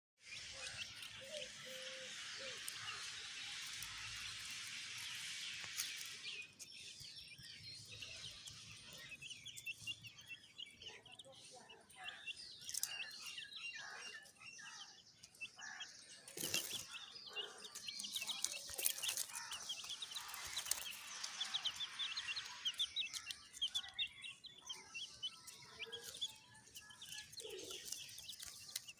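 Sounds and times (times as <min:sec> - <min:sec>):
chicks peeping: 0:00.2 - 0:28.9.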